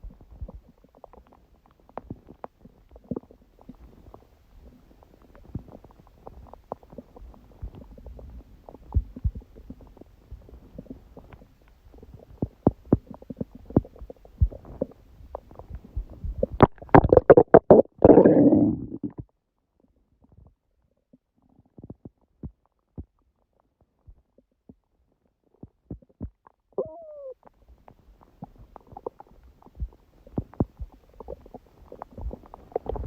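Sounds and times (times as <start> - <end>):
stomach gurgling: 0.0 - 33.0.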